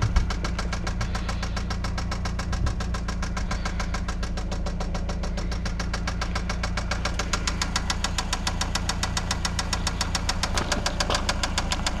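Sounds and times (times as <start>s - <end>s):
engine running with rod knock: 0.0s - 12.0s.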